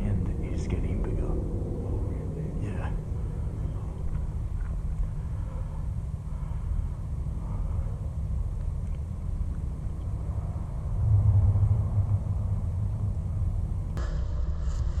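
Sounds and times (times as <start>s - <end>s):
low rumble in drain tunnel: 0.0s - 15.0s.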